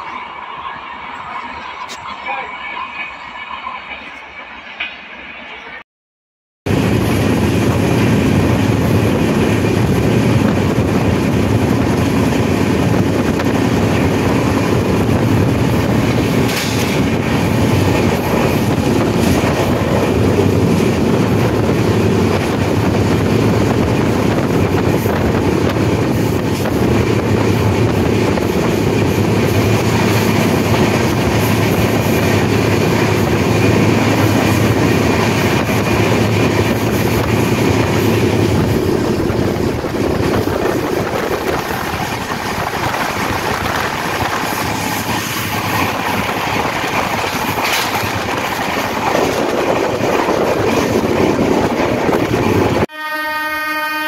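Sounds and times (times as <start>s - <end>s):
passenger train running: 0.0s - 5.8s, 6.7s - 54.0s.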